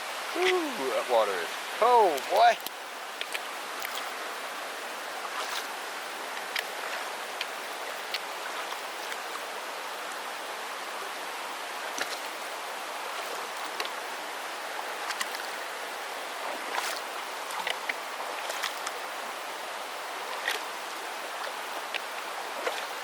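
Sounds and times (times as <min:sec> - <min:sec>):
splashes of wading: 0:00.0 - 0:09.9, 0:11.8 - 0:19.1, 0:20.3 - 0:23.0
creek water rushing: 0:00.0 - 0:23.0.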